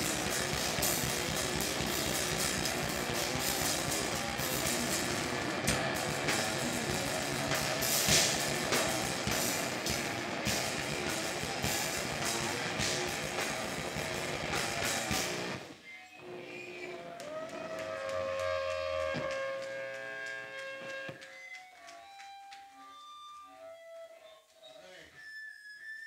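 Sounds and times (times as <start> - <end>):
drum kit: 0.0 - 21.2
distorted electric guitar: 0.0 - 24.3.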